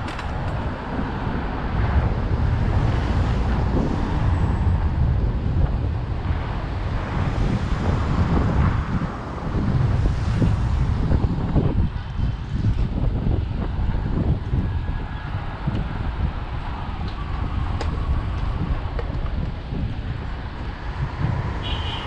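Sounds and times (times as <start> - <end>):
faint road traffic: 0.0 - 22.0
wind buffeting microphone: 0.0 - 22.0.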